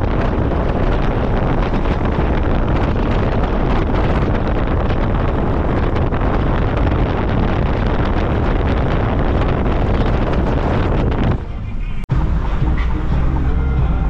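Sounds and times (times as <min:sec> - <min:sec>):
road and traffic noise: 0:00.0 - 0:14.0
wind buffeting a microphone: 0:00.0 - 0:14.0.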